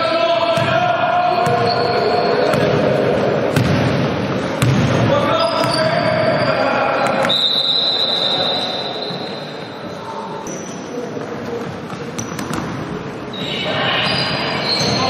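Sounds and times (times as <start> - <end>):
voices in a gym: 0.0 - 15.0.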